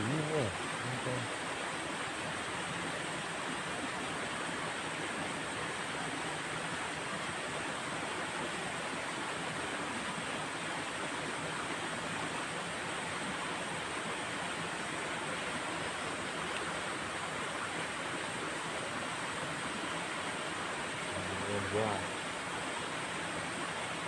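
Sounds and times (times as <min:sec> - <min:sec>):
flowing water rushing: 0:00.0 - 0:24.0.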